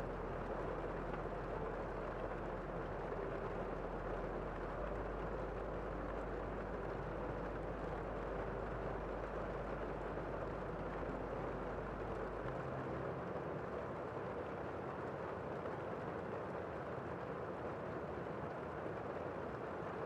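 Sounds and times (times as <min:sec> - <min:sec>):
steady rain heard indoors: 0:00.0 - 0:20.0.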